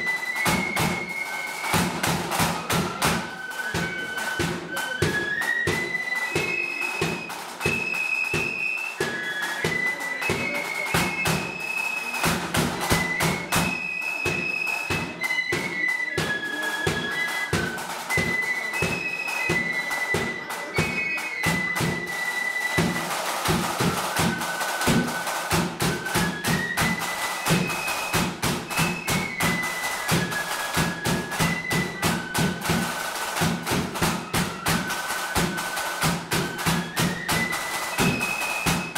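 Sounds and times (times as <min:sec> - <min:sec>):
flutes playing melody: 0:00.0 - 0:38.9.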